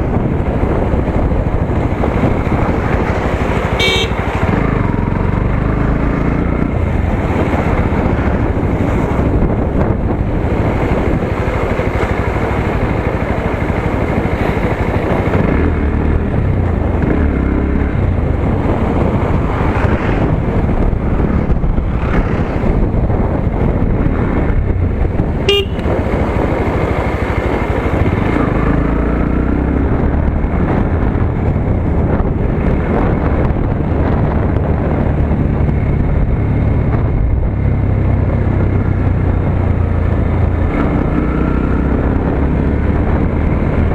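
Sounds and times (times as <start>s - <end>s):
motorcycle engine running: 0.0s - 43.9s
road noise: 0.0s - 43.9s.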